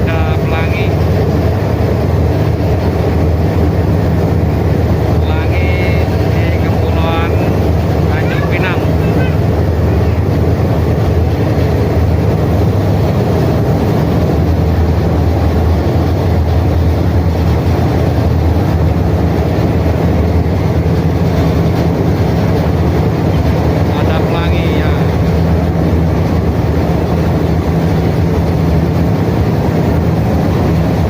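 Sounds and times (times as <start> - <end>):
ferry diesel engines drone: 0.0 - 31.0
propeller wash rushing: 0.0 - 31.0.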